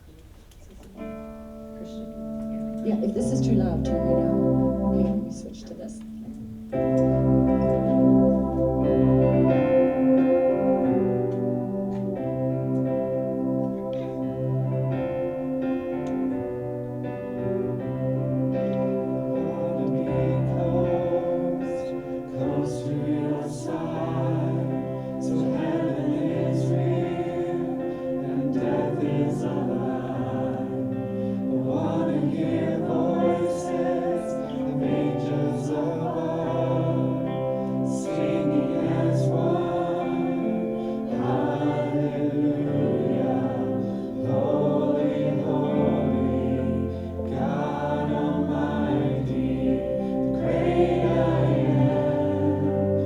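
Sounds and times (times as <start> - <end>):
synth pad keyboard: 0.0 - 53.0
group singing worship song: 2.6 - 53.0.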